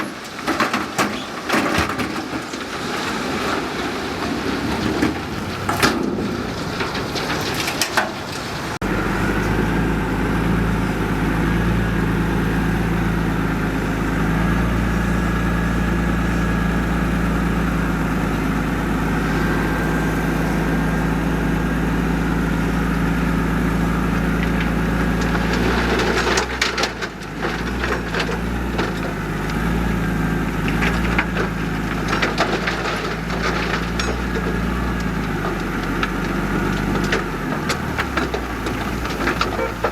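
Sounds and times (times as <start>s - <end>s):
diesel engine running: 0.0s - 39.9s
soil and stones crunching: 0.0s - 39.9s.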